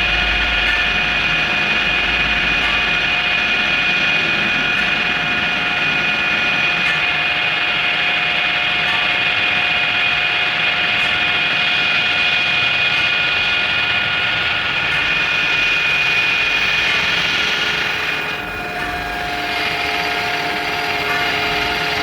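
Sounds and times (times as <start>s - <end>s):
workshop machine whining: 0.0s - 22.0s.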